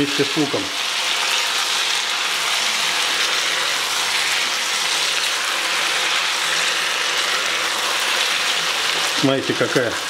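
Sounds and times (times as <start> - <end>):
meat sizzling in a frying pan: 0.0 - 10.0
spatula stirring: 0.1 - 10.0.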